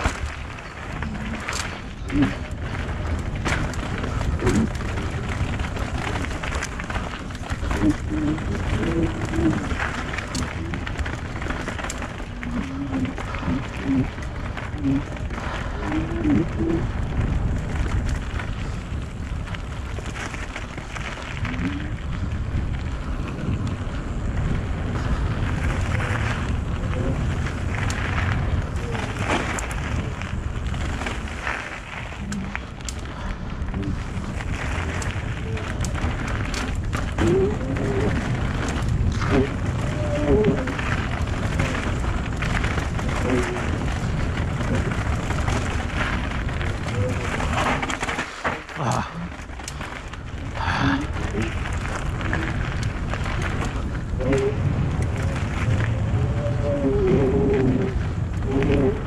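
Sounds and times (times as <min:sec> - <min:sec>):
wind buffeting microphone: 0:00.0 - 0:48.1, 0:49.3 - 0:59.0
bike tyres crunching on gravel: 0:00.0 - 0:59.0
clicks and rattles of stones: 0:00.0 - 0:59.0.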